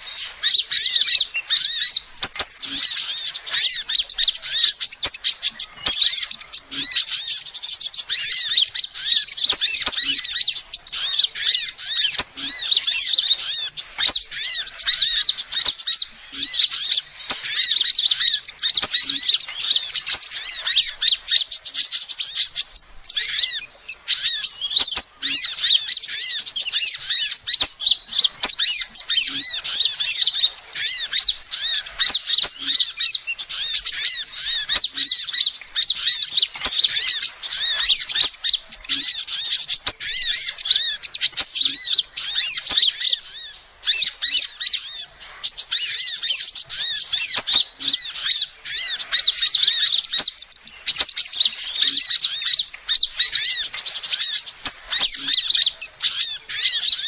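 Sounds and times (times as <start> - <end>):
sunbird chirping and trilling: 0.0 - 57.0.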